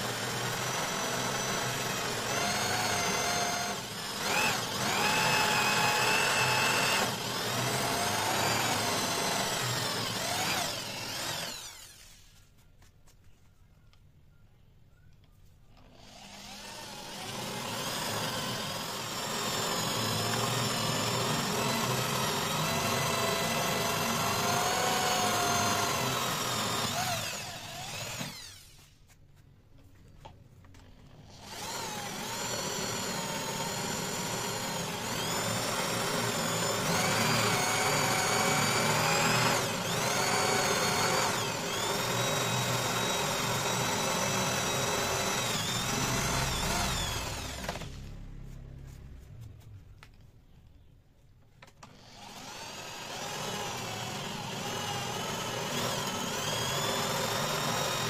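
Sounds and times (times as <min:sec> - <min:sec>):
electric drill boring into wood: 0:00.0 - 0:12.4, 0:15.8 - 0:29.0, 0:30.9 - 0:48.0, 0:51.8 - 0:58.0.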